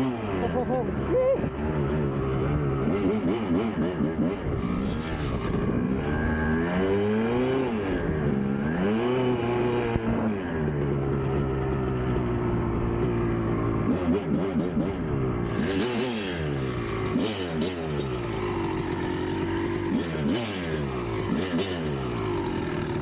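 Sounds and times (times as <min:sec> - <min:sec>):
dirt bike engine revving: 0:00.0 - 0:12.0, 0:12.7 - 0:23.0.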